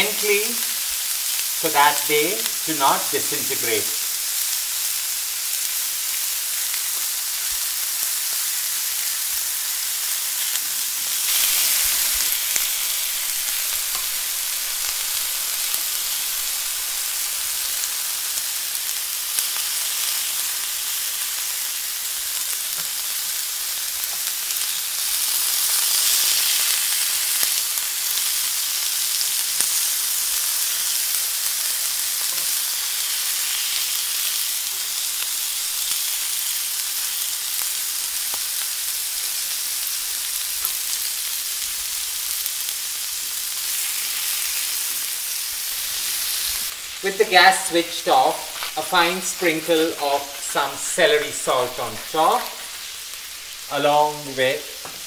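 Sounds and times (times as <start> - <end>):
shrimps sizzling on a griddle: 0.0 - 55.0.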